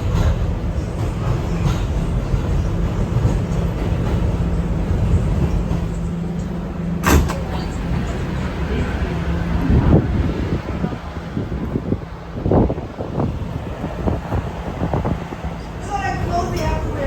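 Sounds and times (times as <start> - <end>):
subway car rumble and hum: 0.0 - 17.0.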